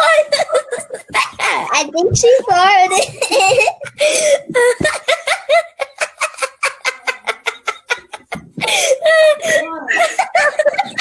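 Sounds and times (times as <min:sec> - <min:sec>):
person giggling: 0:00.0 - 0:01.8, 0:02.8 - 0:11.0.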